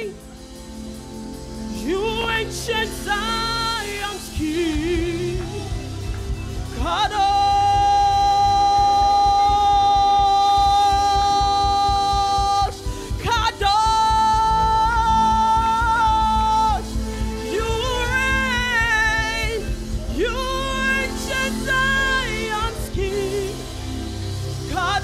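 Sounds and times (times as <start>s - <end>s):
gospel band backing: 0.0s - 25.0s.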